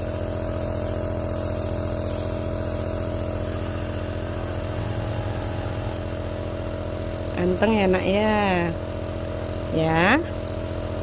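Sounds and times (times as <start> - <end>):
nebulizer compressor humming: 0.0 - 11.0.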